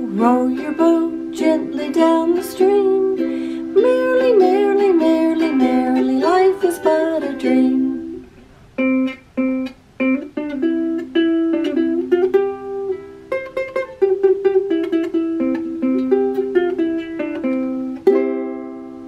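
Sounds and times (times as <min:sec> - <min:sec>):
ukulele plucked notes and chords: 0:00.0 - 0:19.0.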